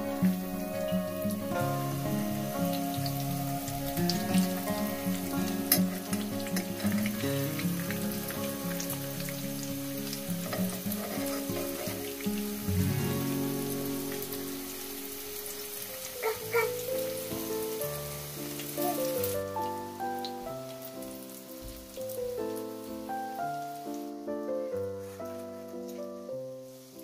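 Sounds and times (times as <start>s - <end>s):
potato slices frying in oil: 0.0s - 24.3s
soft background music: 0.0s - 27.0s.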